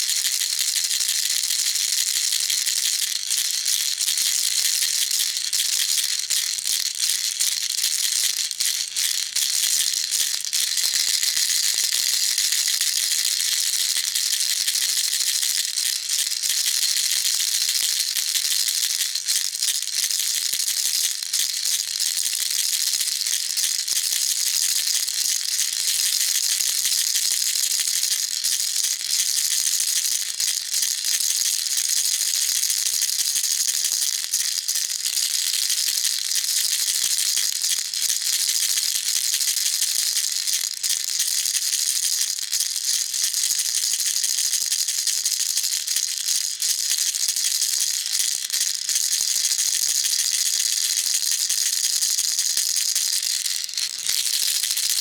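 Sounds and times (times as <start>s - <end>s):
baby rattle shaken: 0.2s - 55.0s.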